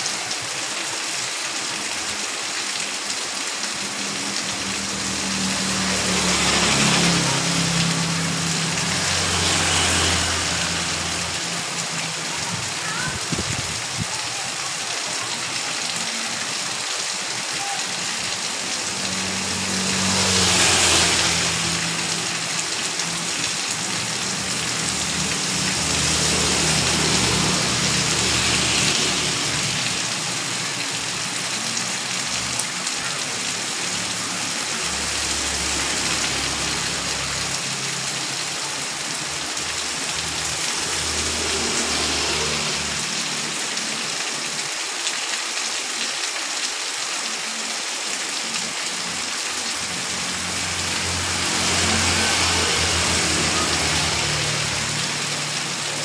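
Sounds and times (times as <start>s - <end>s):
heavy rain on pavement: 0.0s - 56.0s
vehicles passing on wet road: 0.0s - 56.0s.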